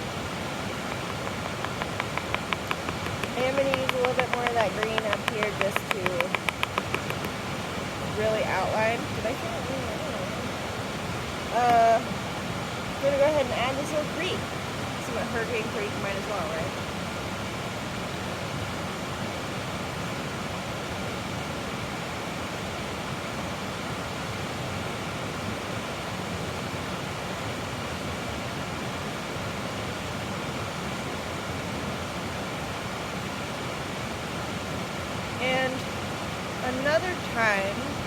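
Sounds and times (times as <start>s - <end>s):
creek water rushing: 0.0s - 38.0s.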